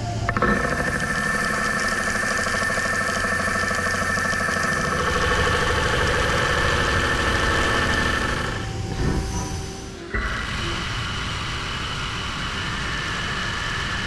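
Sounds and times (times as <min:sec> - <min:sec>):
lathe cutting metal whine: 0:00.0 - 0:14.0.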